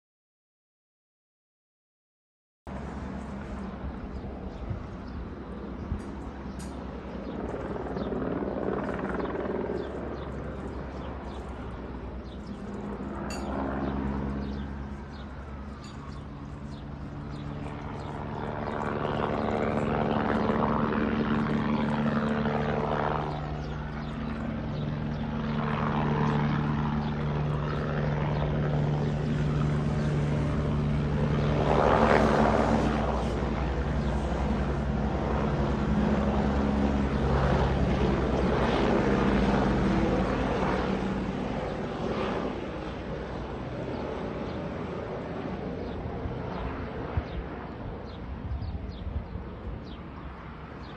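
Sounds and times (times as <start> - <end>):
helicopter rotor and engine drone: 2.7 - 50.9.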